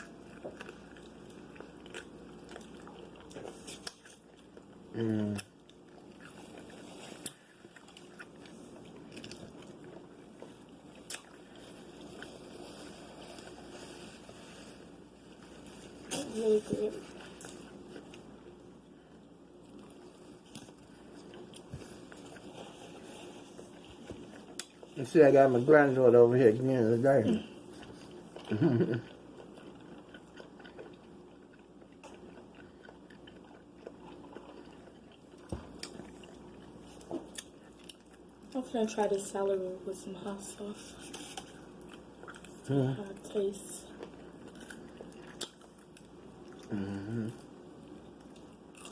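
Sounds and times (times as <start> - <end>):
person chewing food: 0.0 - 38.6, 40.9 - 48.9.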